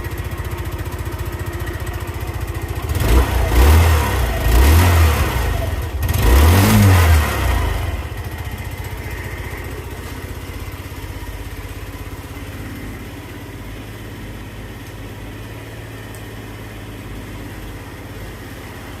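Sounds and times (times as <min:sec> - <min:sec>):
scooter engine revving and idling: 0:00.0 - 0:19.0.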